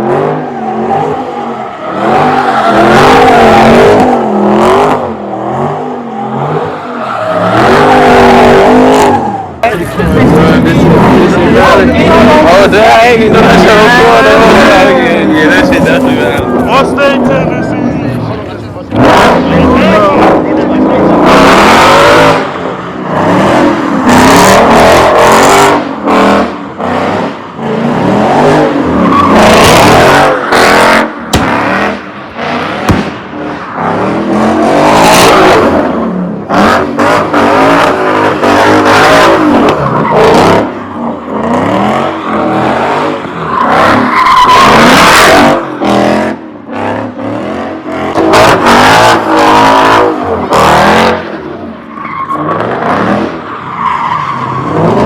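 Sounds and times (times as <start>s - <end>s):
car engine revving: 0.0s - 55.0s
tires squealing on pavement: 0.0s - 55.0s.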